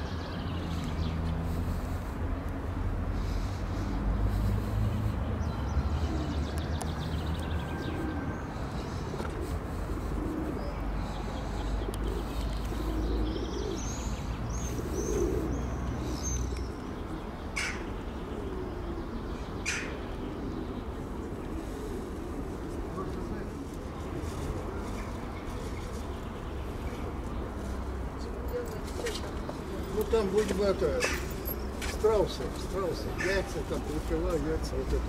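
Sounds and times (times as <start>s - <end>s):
pigeons cooing: 0.0s - 35.0s
small birds chirping: 0.0s - 35.0s.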